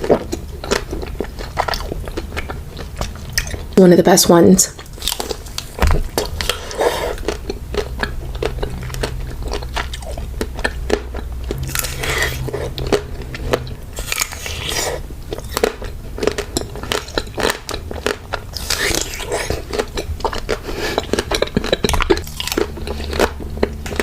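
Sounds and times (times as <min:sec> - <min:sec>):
crunchy chewing: 0:00.0 - 0:03.8, 0:04.7 - 0:24.0.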